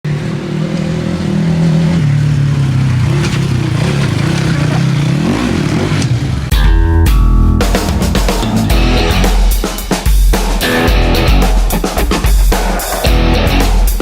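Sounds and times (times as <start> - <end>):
motorcycle engine running: 0.1 - 11.6.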